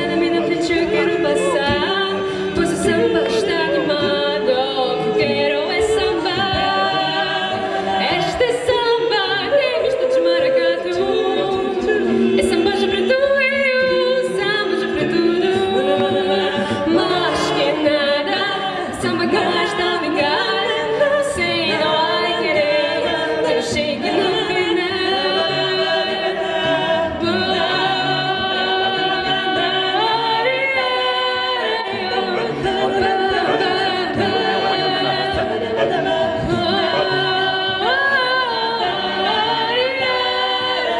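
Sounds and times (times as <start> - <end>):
vocal group singing in harmony: 0.0 - 40.9.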